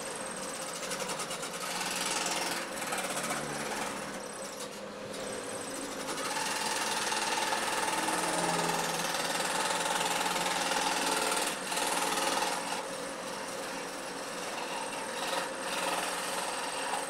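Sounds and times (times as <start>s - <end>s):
jigsaw cutting wood: 0.0s - 17.0s.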